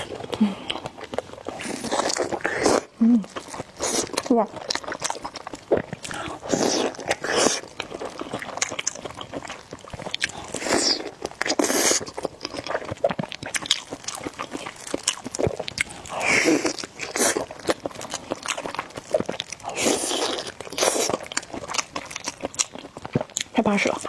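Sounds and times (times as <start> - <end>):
noodle slurping: 0.0 - 21.7
wet chewing and mouth clicks: 0.0 - 24.0.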